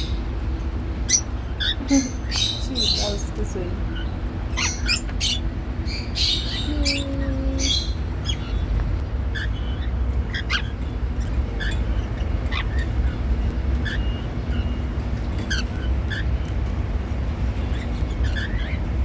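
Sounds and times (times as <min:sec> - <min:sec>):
cockatiels chirping and squawking: 0:00.0 - 0:00.3, 0:01.0 - 0:16.6, 0:17.6 - 0:19.0
low background hum: 0:00.0 - 0:19.0.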